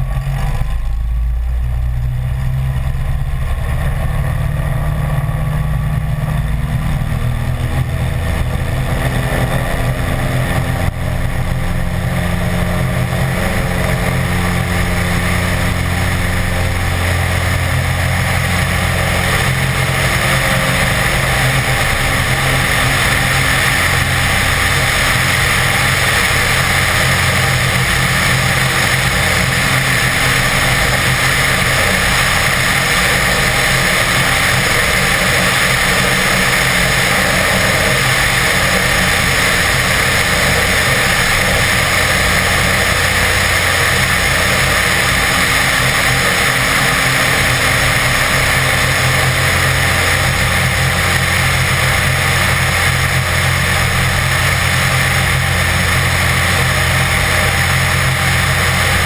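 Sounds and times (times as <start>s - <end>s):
propeller aircraft engine running: 0.0s - 59.0s.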